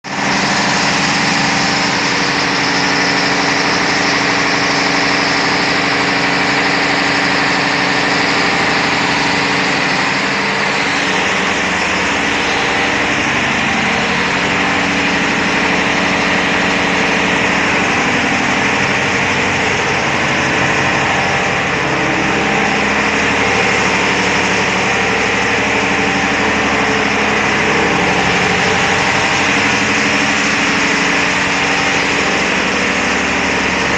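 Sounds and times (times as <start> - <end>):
engine room machinery hum: 0.0 - 33.9.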